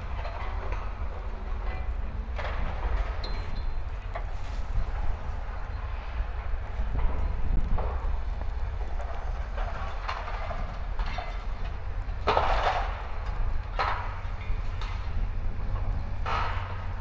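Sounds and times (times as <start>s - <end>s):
excavator engine rumble: 0.0s - 17.0s
scraping and clatter: 0.0s - 17.0s.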